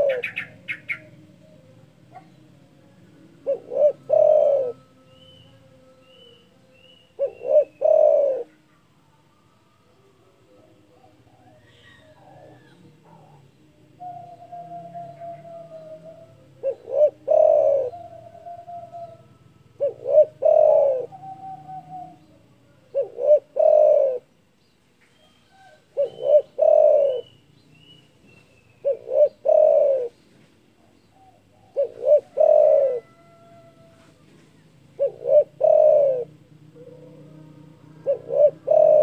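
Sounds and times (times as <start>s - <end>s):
dove cooing: 0.0s - 5.5s, 7.1s - 8.9s, 9.9s - 24.4s, 25.2s - 39.0s.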